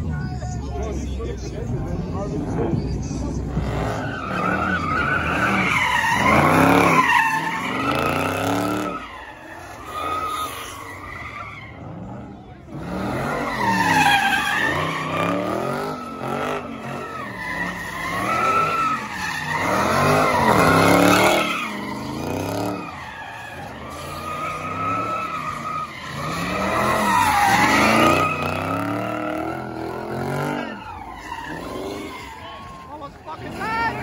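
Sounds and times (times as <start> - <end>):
car engine revving: 0.0 - 34.0
tires squealing: 0.0 - 34.0.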